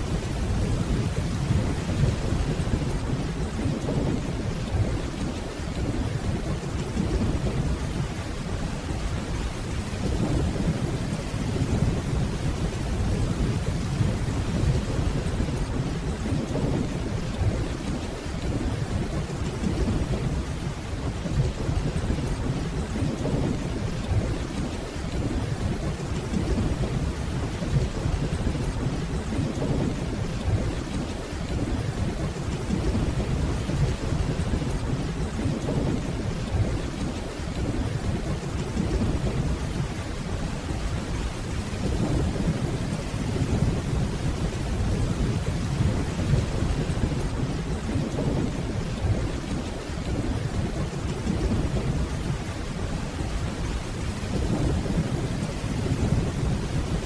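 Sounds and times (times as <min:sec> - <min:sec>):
distant rolling thunder: 0:00.0 - 0:57.0
steady rainfall: 0:00.0 - 0:57.0.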